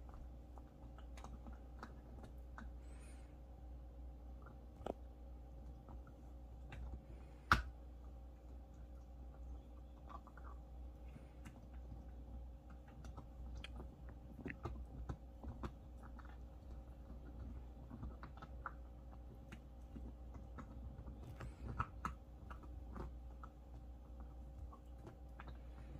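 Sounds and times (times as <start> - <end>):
dog chewing food: 0.0 - 3.2, 4.3 - 25.9.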